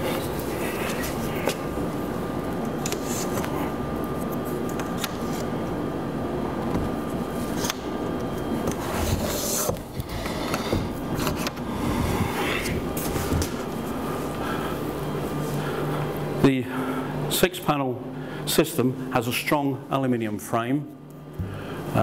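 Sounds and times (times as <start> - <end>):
steady rumbling background noise: 0.0 - 22.0.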